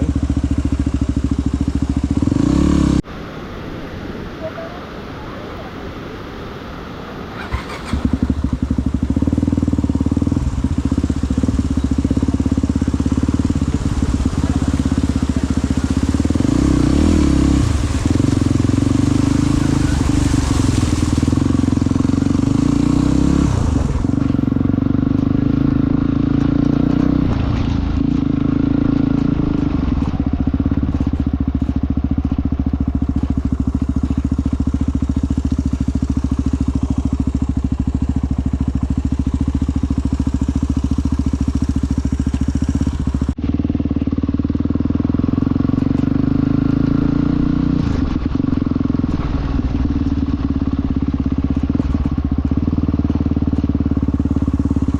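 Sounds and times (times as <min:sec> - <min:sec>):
motorcycle engine running: 0:00.0 - 0:03.0, 0:07.4 - 0:54.9.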